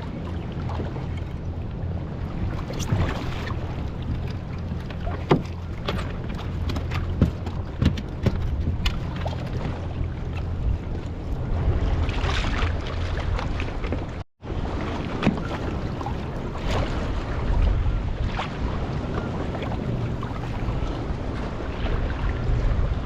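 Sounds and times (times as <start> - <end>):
water slapping against hull: 0.0 - 23.0
wind buffeting microphone: 0.0 - 23.0.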